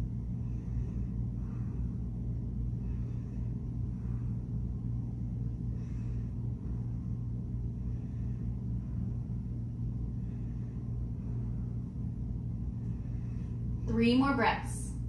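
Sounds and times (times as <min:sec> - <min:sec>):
low rumble: 0:00.0 - 0:15.0
steady low hum: 0:00.0 - 0:15.0.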